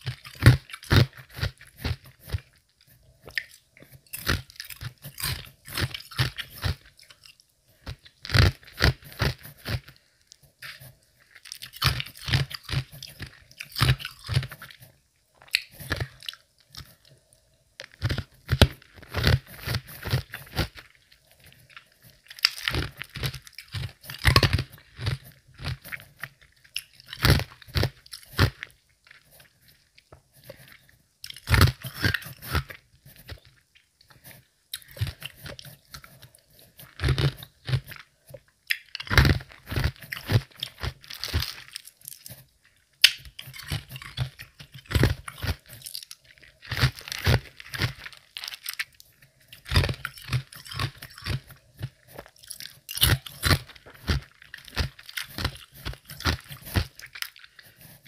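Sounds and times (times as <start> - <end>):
chewing ice crunching: 0.0 - 58.0.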